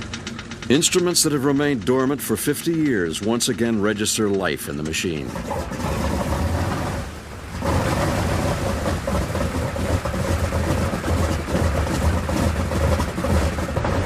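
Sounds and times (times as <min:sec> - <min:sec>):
aircraft radial engines droning: 0:00.0 - 0:14.0.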